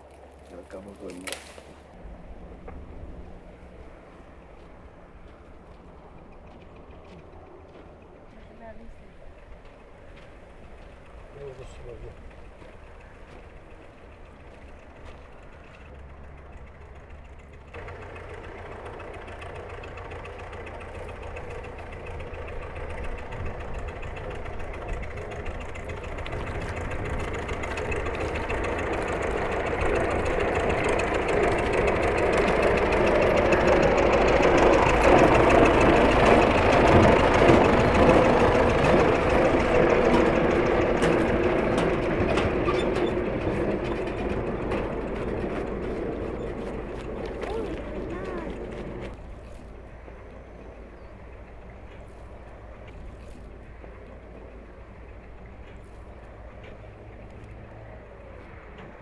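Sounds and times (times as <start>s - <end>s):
vehicle engine passing: 0.0s - 59.0s.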